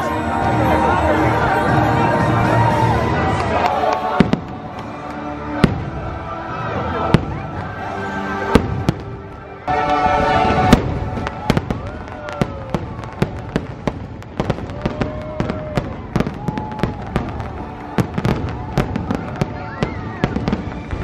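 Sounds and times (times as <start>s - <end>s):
fireworks bangs and crackles: 0.0s - 21.0s
music playing: 0.0s - 21.0s.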